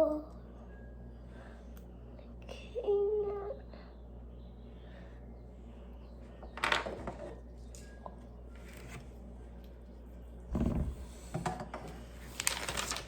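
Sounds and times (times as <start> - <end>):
steady low hum: 0.0 - 6.6, 7.3 - 12.2.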